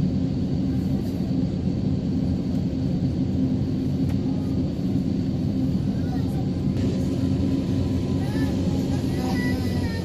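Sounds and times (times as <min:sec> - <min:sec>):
air conditioning running: 0:00.0 - 0:10.0
aircraft engines running: 0:00.0 - 0:10.0.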